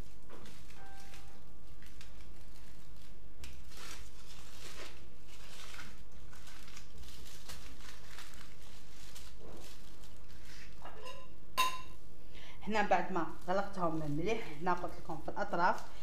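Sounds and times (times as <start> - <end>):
aluminium foil crinkling: 0.0 - 11.0, 12.8 - 16.0.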